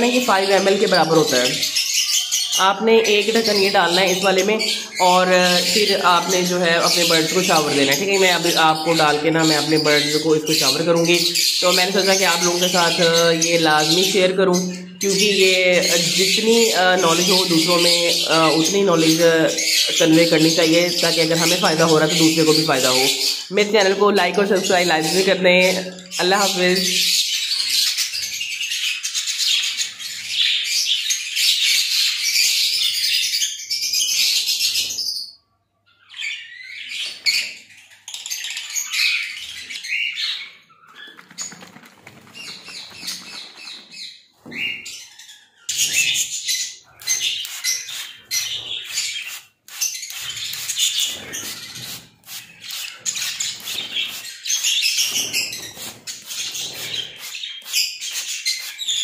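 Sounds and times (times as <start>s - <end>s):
parrots chirping and chattering: 0.0s - 59.0s.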